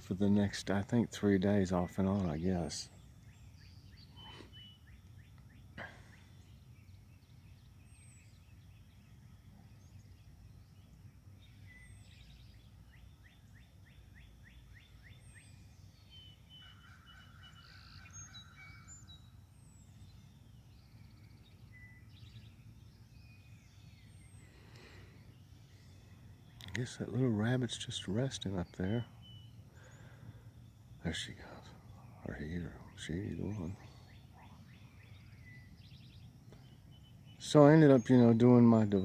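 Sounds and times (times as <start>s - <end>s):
faint birdsong: 0.0s - 39.0s.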